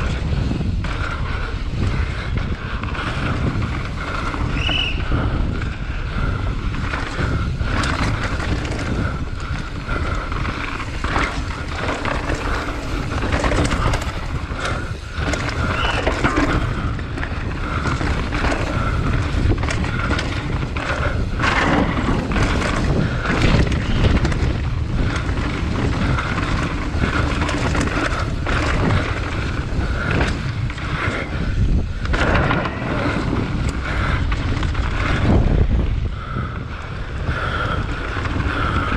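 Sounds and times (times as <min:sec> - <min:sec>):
bike rattling and knocking: 0:00.0 - 0:38.9
tyres rumbling on dirt: 0:00.0 - 0:38.9
wind rushing over microphone: 0:00.0 - 0:38.9.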